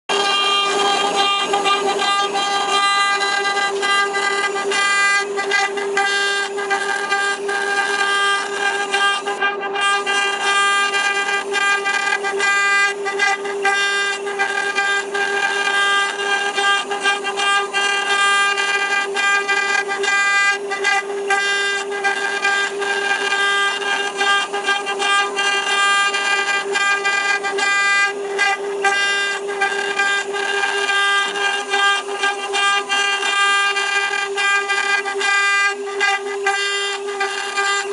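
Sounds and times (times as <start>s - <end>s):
cutter rasping wood: 0.1s - 37.9s
router spindle whining: 0.1s - 37.9s.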